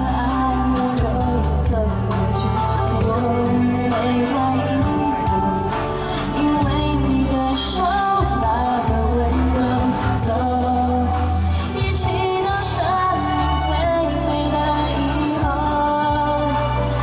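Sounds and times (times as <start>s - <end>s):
amplified backing music with bass: 0.0s - 17.0s
woman singing into a microphone: 0.0s - 17.0s.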